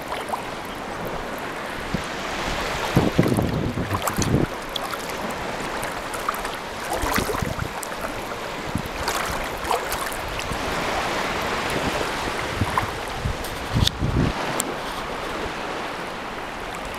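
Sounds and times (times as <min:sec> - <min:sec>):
small water splashes: 0:00.0 - 0:16.9
small waves lapping: 0:00.0 - 0:16.9.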